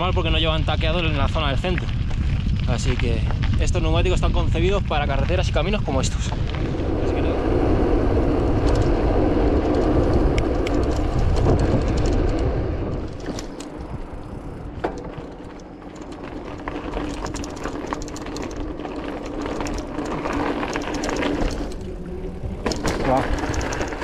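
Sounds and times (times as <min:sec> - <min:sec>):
bike clicks and rattles: 0:00.0 - 0:24.0
bike tyre noise on dirt: 0:00.0 - 0:24.0
wind rumbling on microphone: 0:00.0 - 0:24.0.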